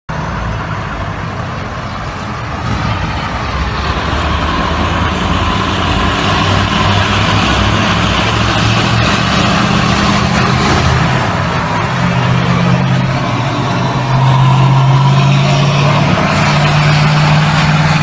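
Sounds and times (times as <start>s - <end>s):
heavy vehicle engine running: 0.1s - 18.0s
street noise: 0.1s - 18.0s.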